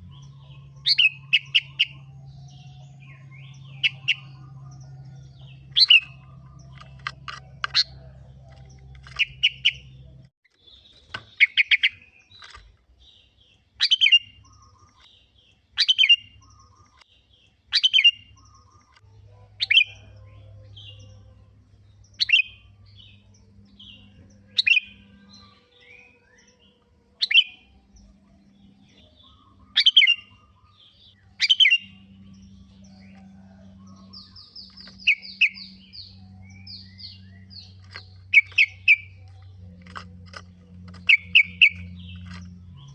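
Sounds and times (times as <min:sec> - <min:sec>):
faint low hum: 0:00.0 - 0:13.6, 0:18.2 - 0:42.9
bird chirping: 0:00.0 - 0:42.9.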